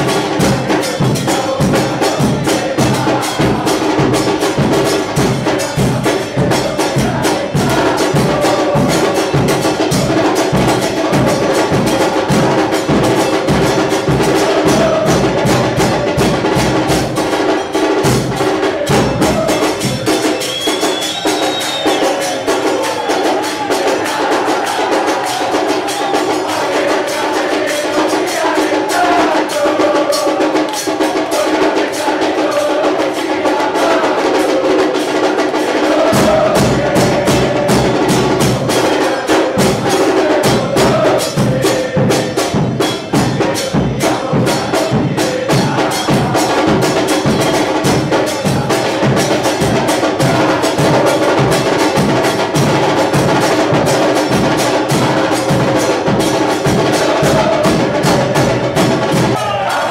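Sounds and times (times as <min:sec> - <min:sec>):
deep drums beating: 0:00.0 - 0:21.0, 0:21.7 - 0:59.4
crowd singing a football chant: 0:00.0 - 0:59.9
rhythmic clapping: 0:00.0 - 0:59.9.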